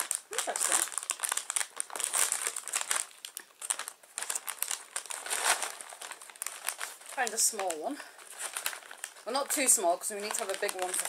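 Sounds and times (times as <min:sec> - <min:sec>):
plastic crisp packet crinkling: 0:00.0 - 0:11.0.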